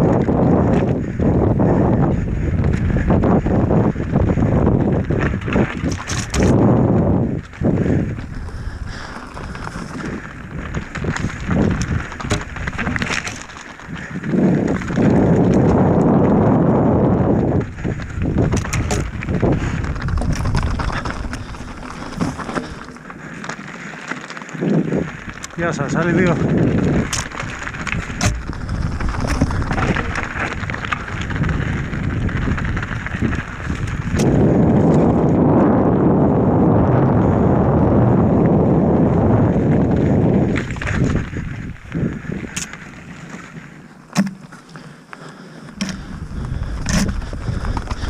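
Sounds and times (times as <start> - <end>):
bike rattles and knocks: 0.0 - 35.6, 39.0 - 44.9, 45.6 - 48.0
wind buffeting microphone: 0.0 - 44.5, 45.4 - 48.0
bike tyres on dirt and stones: 0.0 - 48.0.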